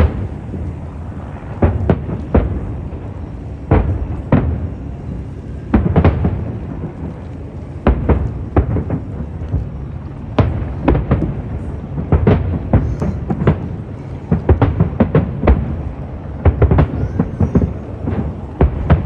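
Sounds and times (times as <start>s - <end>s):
continuous low rumble: 0.0s - 19.0s
fireworks booming: 0.0s - 19.0s.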